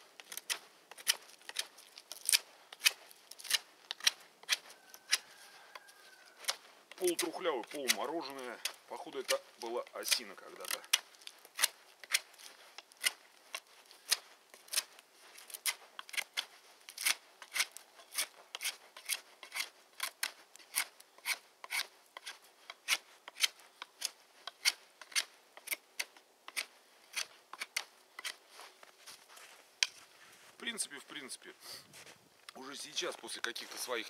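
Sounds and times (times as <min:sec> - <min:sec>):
knife scraping wooden stick: 0:00.2 - 0:30.1.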